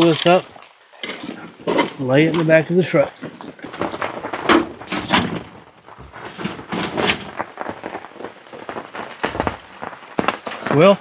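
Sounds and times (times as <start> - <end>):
rustling: 1.0 - 11.0.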